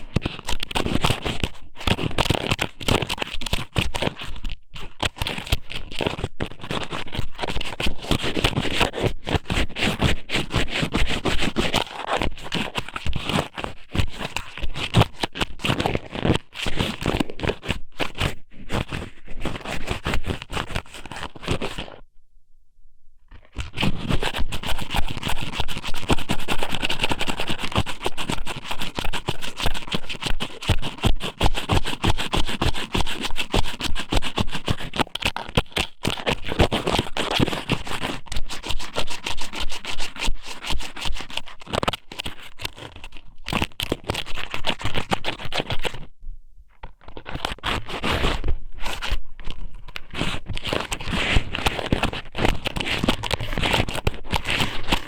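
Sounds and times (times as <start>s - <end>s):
crackling scrape on microphone: 0.0s - 22.0s, 23.3s - 46.1s, 46.7s - 55.0s.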